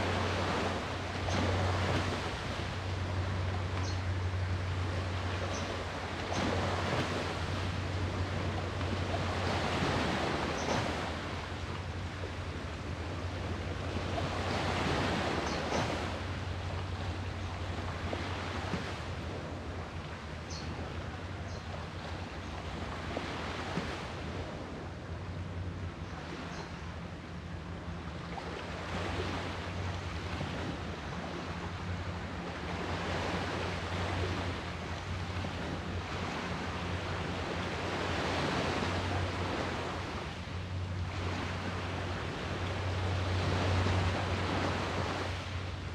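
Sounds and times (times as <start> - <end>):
sea waves breaking on shore: 0.0 - 45.9
steady low hum: 0.0 - 45.9.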